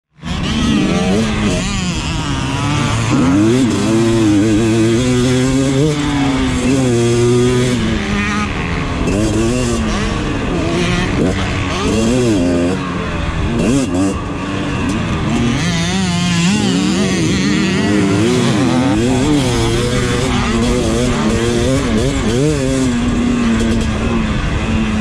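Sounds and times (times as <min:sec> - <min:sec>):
motocross bike engine revving: 0:00.1 - 0:25.0.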